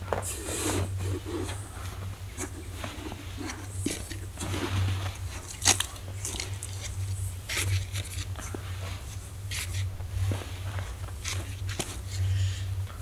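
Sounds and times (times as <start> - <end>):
kettle scooping snow crunching: 0.0 - 12.6.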